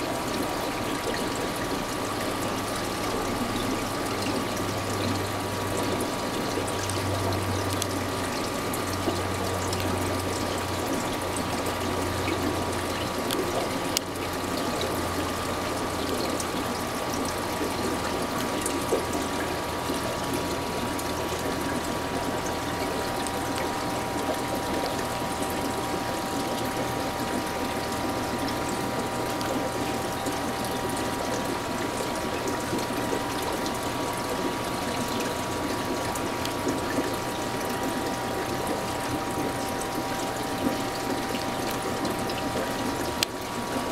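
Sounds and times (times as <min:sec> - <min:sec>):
bubbling water: 0:00.0 - 0:43.9
pump humming: 0:00.0 - 0:43.9.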